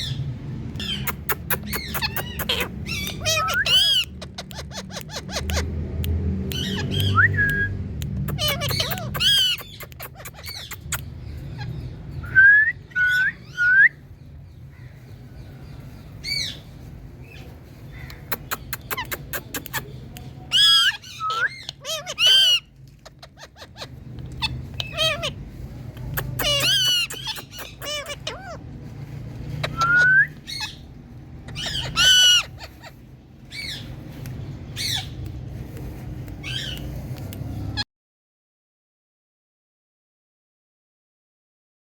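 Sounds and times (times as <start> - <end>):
parakeets screeching: 0.0 - 37.8.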